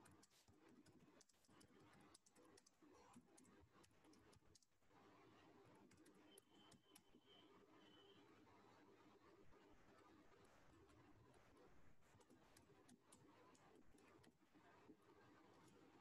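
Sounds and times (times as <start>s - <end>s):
faint keyboard typing: 0.0s - 7.5s, 9.9s - 16.0s.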